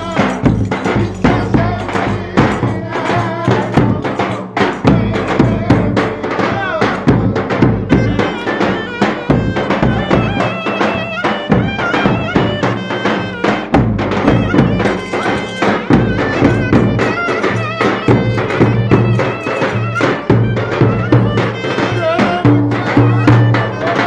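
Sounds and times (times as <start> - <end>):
quick drum beat: 0.0 - 24.0
wavering folk melody: 0.0 - 24.0.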